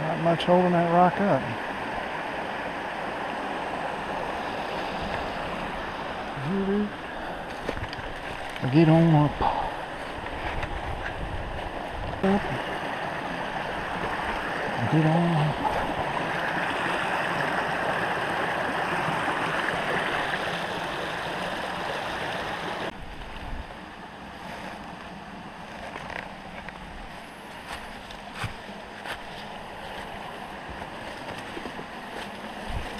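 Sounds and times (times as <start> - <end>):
creek water rushing over rocks: 0.0 - 32.9.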